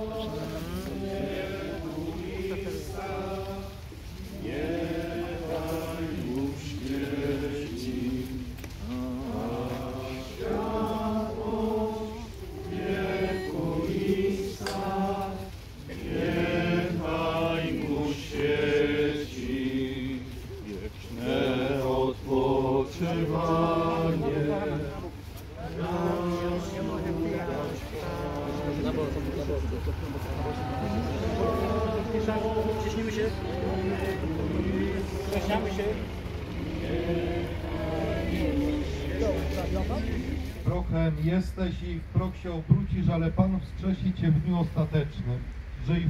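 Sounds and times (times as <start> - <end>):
men singing a slow chant: 0.0 - 40.8.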